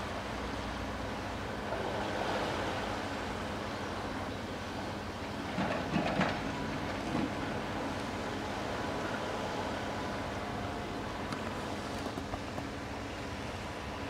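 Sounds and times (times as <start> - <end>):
crane engine running: 0.0 - 14.0.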